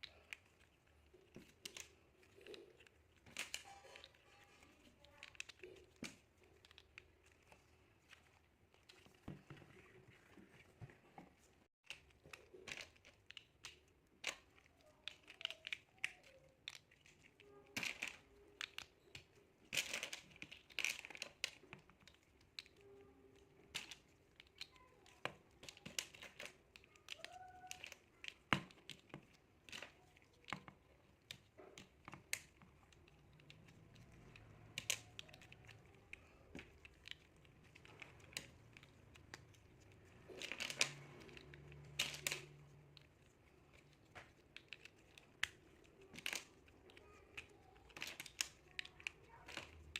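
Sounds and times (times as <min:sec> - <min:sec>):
plastic blocks snapping together: 0:00.0 - 0:04.2, 0:11.8 - 0:22.8, 0:23.4 - 0:49.9
light crinkly rustling: 0:00.0 - 0:49.9.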